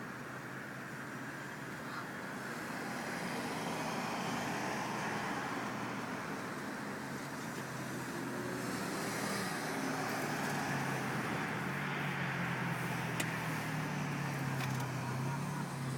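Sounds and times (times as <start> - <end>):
road noise: 0.0 - 15.9
vehicle engine humming: 0.0 - 15.9.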